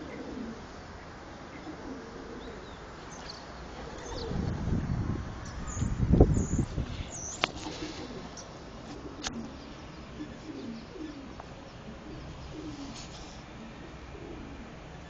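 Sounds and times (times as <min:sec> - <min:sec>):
pigeon cooing: 0:00.0 - 0:03.0, 0:03.7 - 0:04.5, 0:06.4 - 0:15.0.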